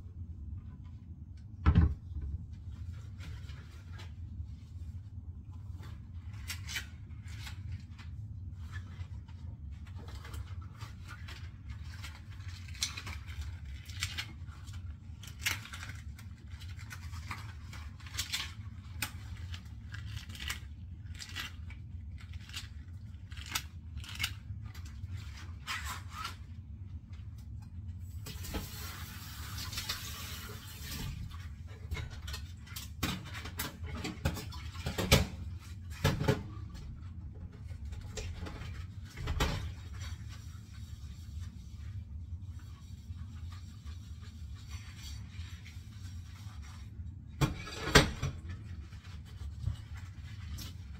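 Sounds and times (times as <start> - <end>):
scrubbing dishes in rubber gloves: 0.6 - 50.9.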